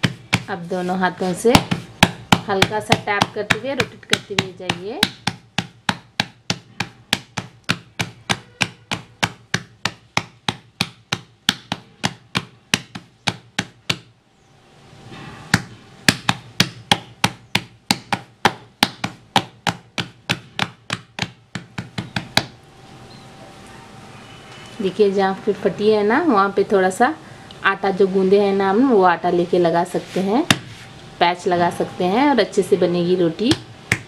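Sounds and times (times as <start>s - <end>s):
palms patting dough: 0.0s - 14.2s, 15.4s - 23.2s, 27.7s - 34.0s.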